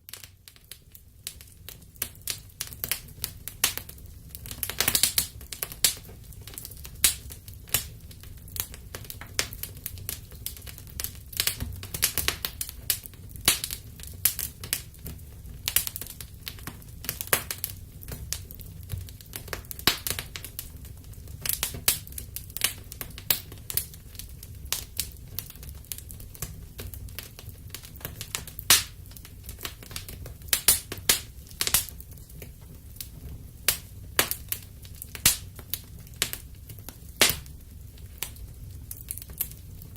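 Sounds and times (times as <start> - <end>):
soft low fire rumble: 0.0 - 39.9
wood fire crackling and popping: 0.0 - 39.9.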